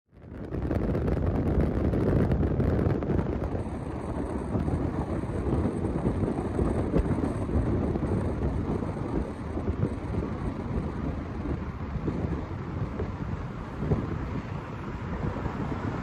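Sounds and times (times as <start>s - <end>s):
jet engines rumbling: 0.3s - 16.0s.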